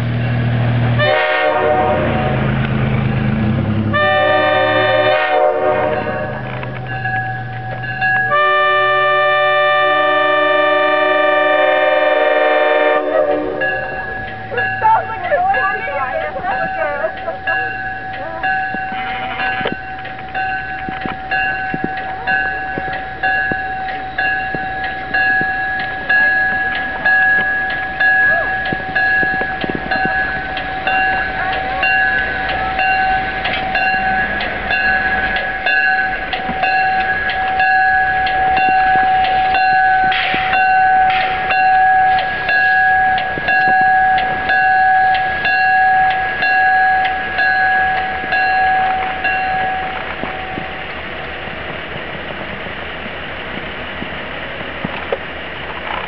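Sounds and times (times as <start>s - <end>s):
railway bell ringing: 0.0s - 51.5s
diesel railcar rumble: 0.0s - 56.0s.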